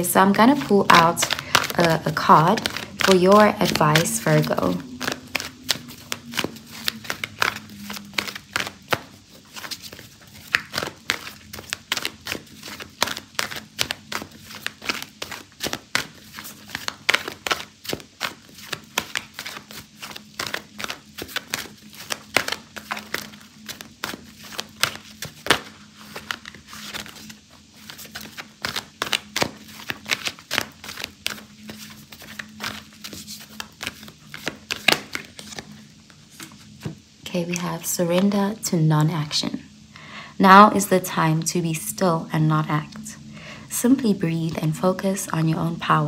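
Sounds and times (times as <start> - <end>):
cards being shuffled: 0.0 - 38.7
faint steady hum: 0.0 - 46.0.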